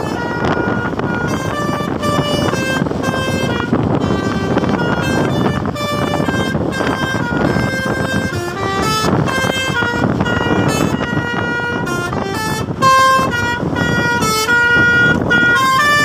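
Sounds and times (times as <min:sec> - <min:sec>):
musical air horn melody: 0:00.0 - 0:16.0.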